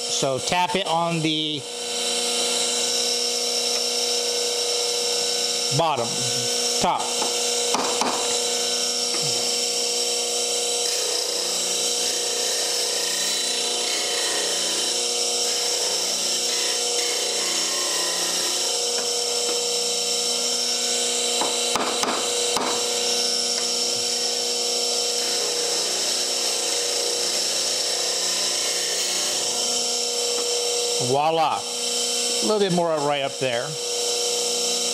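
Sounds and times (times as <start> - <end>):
bench grinder motor hum: 0.0 - 34.9.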